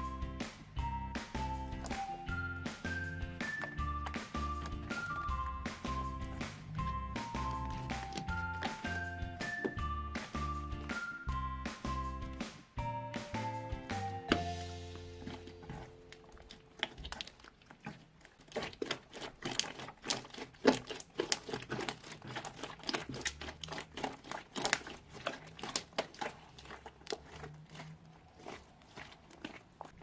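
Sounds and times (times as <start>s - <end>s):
slime squeezed by hand: 0.0s - 30.0s.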